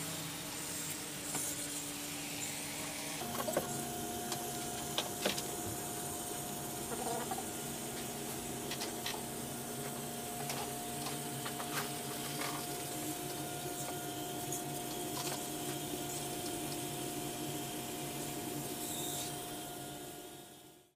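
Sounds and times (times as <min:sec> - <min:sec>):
small gear motors whirring: 0:00.0 - 0:20.9.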